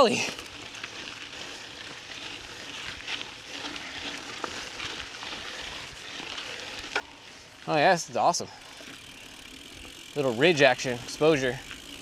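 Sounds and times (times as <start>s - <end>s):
bike tyres on loose sand: 0.0s - 12.0s
faint bike ticks: 0.0s - 12.0s.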